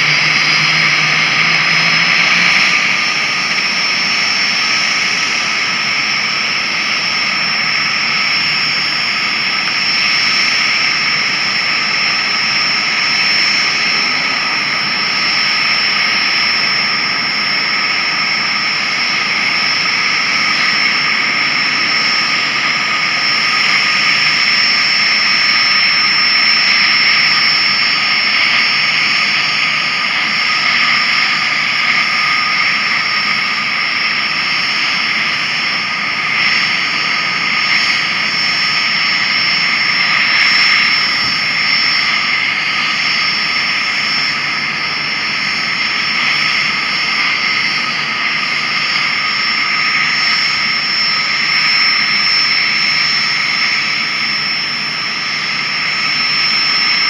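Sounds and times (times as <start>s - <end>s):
jet engines idling whine: 0.0s - 57.0s.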